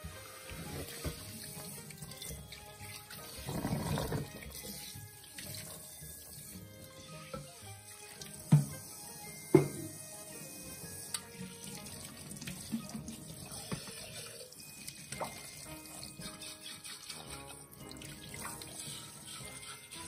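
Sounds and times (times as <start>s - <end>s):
faucet running into metal sink: 0.0s - 20.0s.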